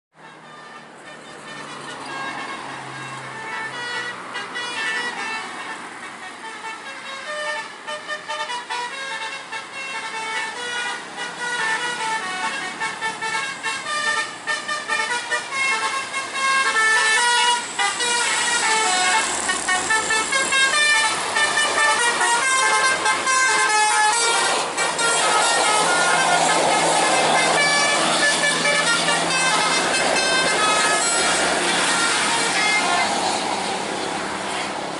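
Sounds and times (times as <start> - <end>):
multi-tone bus horn melody: 0.1 - 34.9.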